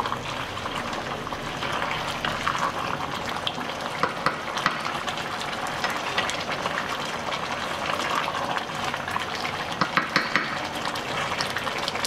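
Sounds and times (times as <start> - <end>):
curry bubbling in a pot: 0.0 - 12.0.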